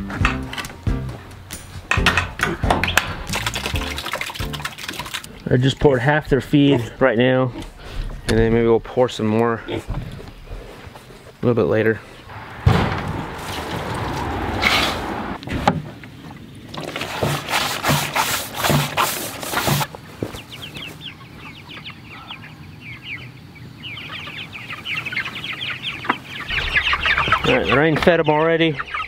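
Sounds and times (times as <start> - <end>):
chickens chirping: 0.0 - 16.9, 19.2 - 29.0.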